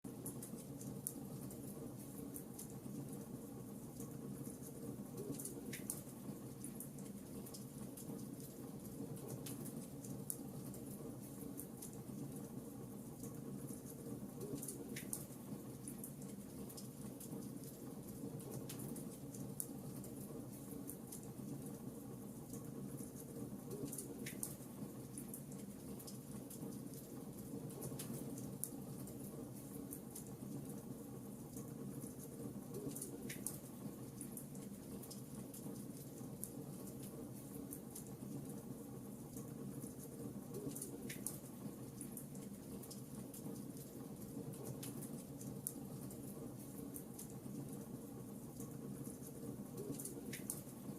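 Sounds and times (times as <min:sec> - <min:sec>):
faint fire crackles: 0:00.1 - 0:50.9.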